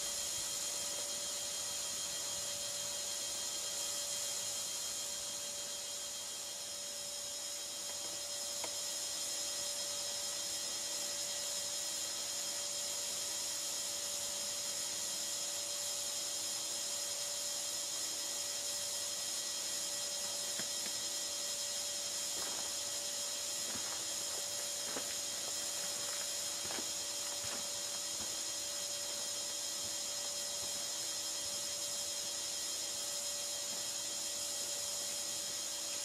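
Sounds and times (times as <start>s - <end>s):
faint hum tones: 0.0s - 36.0s
steady hiss: 0.0s - 36.0s.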